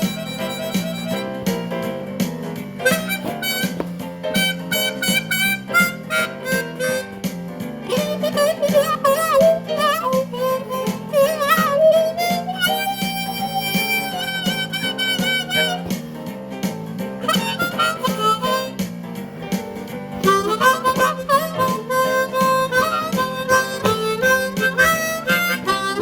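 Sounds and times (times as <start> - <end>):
blues harmonica: 0.0 - 26.0
rhythmic guitar: 0.0 - 26.0.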